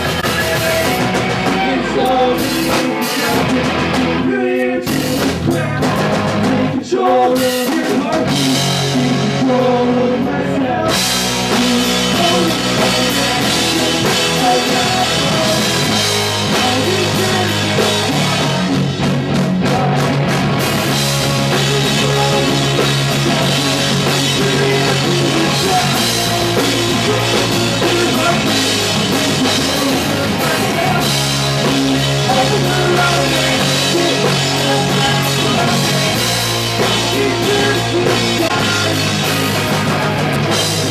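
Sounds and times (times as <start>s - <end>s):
punk rock band playing live: 0.0s - 40.9s.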